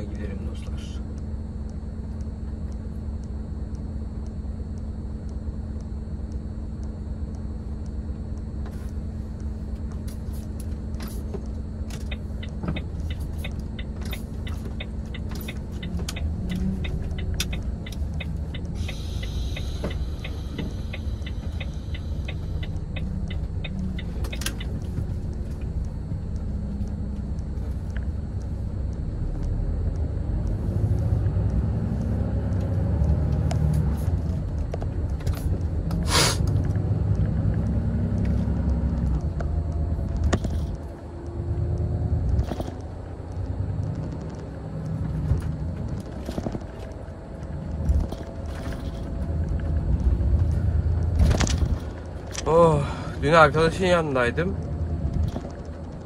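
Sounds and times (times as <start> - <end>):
truck diesel engine running: 0.0 - 56.0
turn signal ticking: 0.0 - 56.0.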